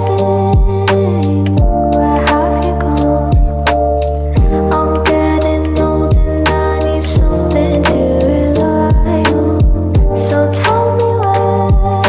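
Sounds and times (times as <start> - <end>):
deep kick drums sliding down: 0.0 - 12.0
held synth chords: 0.0 - 12.0.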